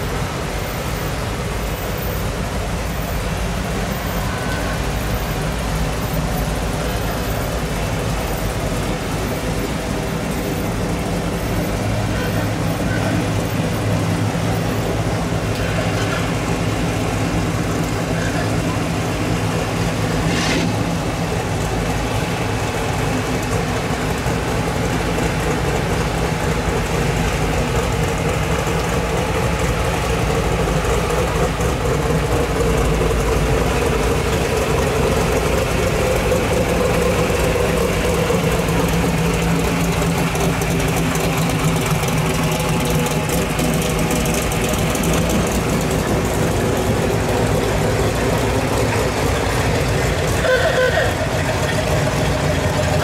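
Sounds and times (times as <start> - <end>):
car engines passing slowly: 0.0 - 53.0.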